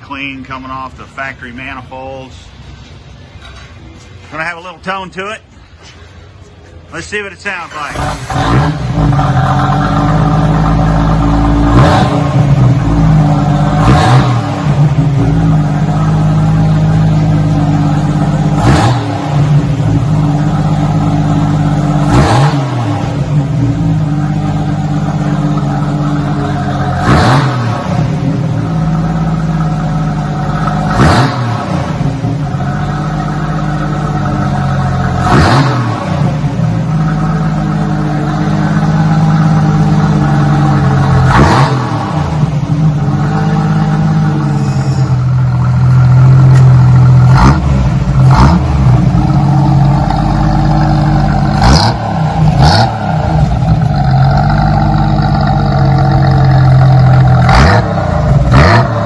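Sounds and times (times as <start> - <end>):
car engine idling: 5.4 - 59.0
engine throttle revs: 7.7 - 59.0.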